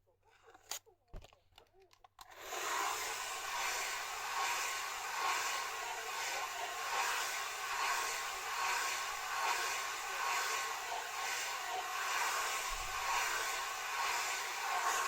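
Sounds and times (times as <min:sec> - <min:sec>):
hair dryer blowing: 0:02.3 - 0:15.0.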